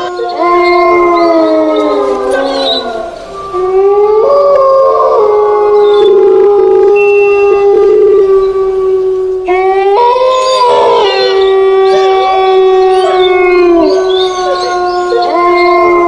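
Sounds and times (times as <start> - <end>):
dogs howling together: 0.0 - 16.0.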